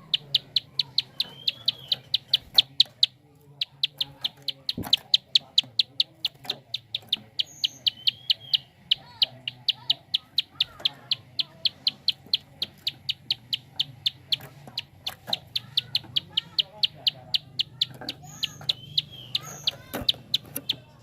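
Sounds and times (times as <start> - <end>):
bird giving sharp clicking call: 0.0 - 20.9
other birds calling faintly: 0.0 - 21.0.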